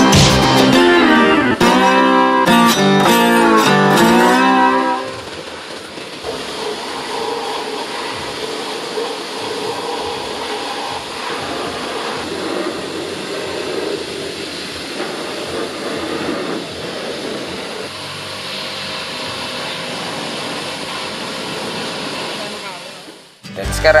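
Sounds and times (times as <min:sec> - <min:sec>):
pressure washer spray hiss: 0:04.1 - 0:23.4.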